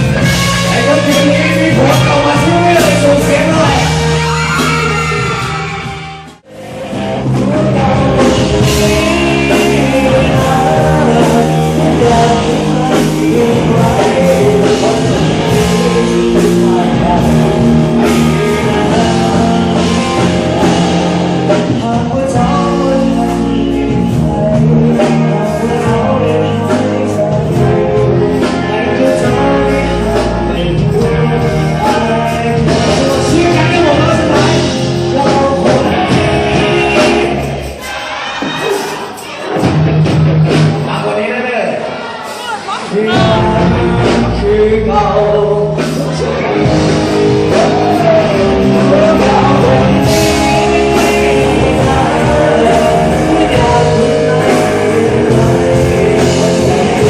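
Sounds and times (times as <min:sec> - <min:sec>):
person singing: 0:00.0 - 0:39.7, 0:41.9 - 0:57.0
rock band playing: 0:00.0 - 0:57.0.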